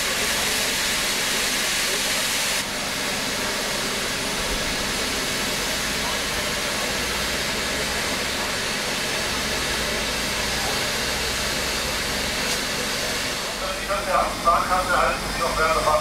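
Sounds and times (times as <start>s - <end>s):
steam locomotive hissing steam: 0.0s - 16.0s.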